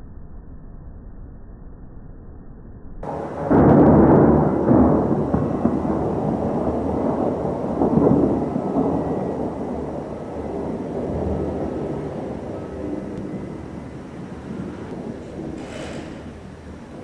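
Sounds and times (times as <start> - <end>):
thunder rumbling: 3.0 - 17.0.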